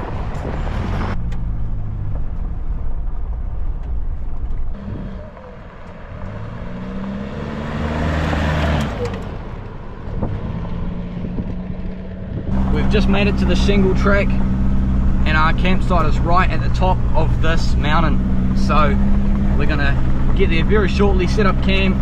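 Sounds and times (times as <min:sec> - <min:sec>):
truck engine accelerating: 0:00.0 - 0:22.0
tyre and road noise: 0:00.0 - 0:22.0.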